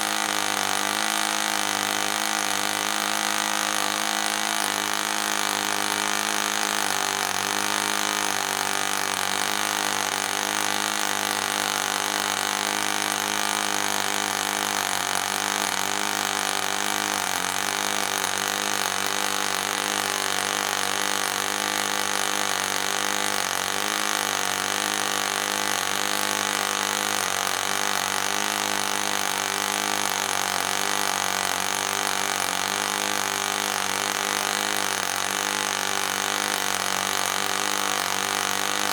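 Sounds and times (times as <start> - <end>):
model engine running at high speed: 0.0 - 38.9.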